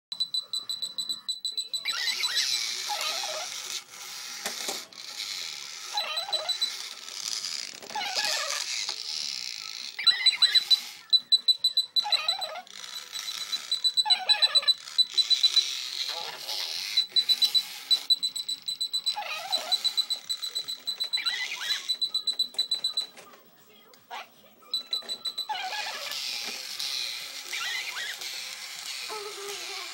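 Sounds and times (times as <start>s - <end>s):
high-pitched electronic toy beeping: 0.1s - 23.2s, 24.6s - 29.9s.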